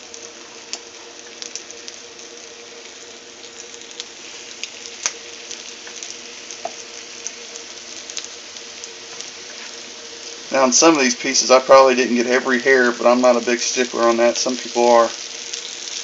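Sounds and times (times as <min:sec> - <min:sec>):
meat frying in oil: 0:00.0 - 0:16.0.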